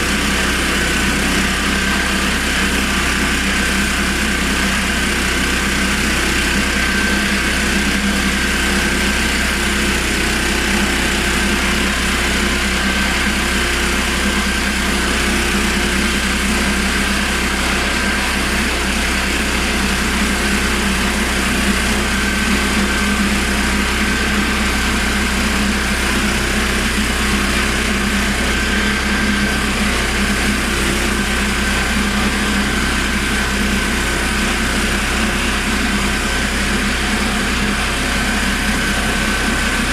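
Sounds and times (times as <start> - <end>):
petrol engine running: 0.0 - 39.9.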